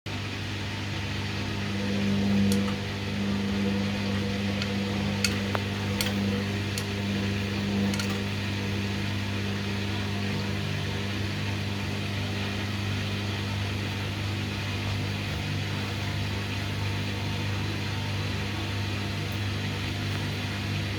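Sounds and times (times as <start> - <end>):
washing machine motor humming: 0.1 - 20.9.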